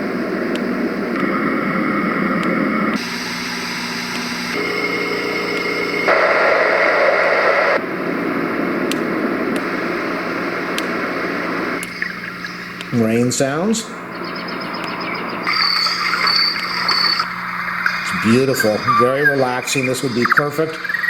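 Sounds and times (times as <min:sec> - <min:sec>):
sound machine surf noises: 0:00.0 - 0:21.0.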